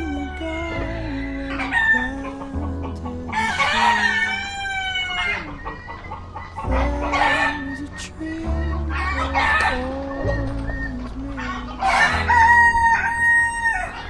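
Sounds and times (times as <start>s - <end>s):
background music with low drone: 0.0s - 14.0s
rooster crowing: 0.0s - 14.0s.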